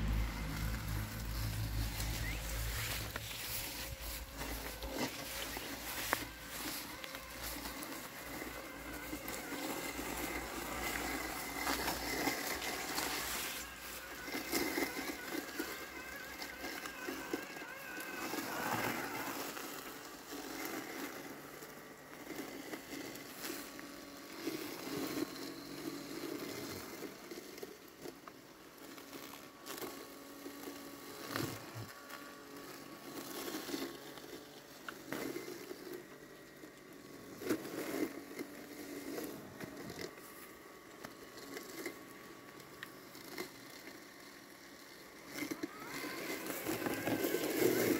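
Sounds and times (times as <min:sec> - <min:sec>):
grass crackling and rustling: 0:00.0 - 0:47.9
robotic lawn mower whining: 0:00.0 - 0:47.9.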